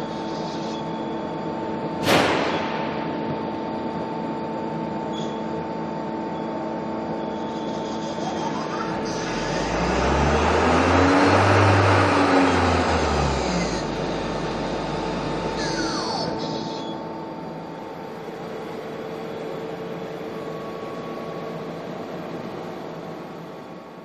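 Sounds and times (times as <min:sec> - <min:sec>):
machine whine falling in pitch: 0:00.0 - 0:24.0
mechanical hum: 0:00.0 - 0:24.0.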